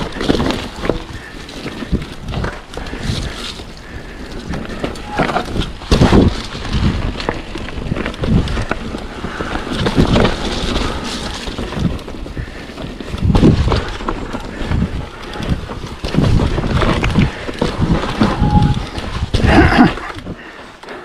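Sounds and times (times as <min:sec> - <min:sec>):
wind buffeting microphone: 0:00.0 - 0:20.5
bike knocking and rattling: 0:00.0 - 0:21.0
bike tyres rolling on dirt: 0:00.0 - 0:21.0.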